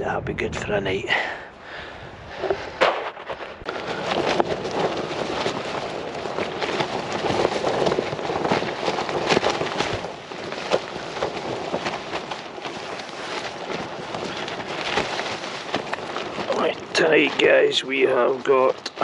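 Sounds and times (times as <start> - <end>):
wind blowing over microphone: 0.0 - 19.0
tent fabric flapping: 1.6 - 19.0.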